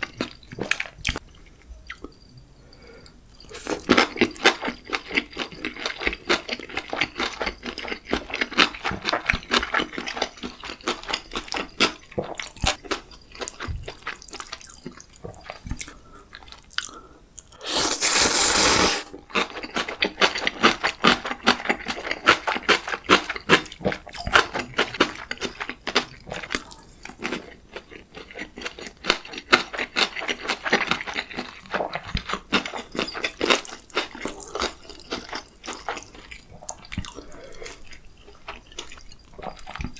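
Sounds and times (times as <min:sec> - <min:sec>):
wet chewing mouth sounds: 0:03.3 - 0:39.9.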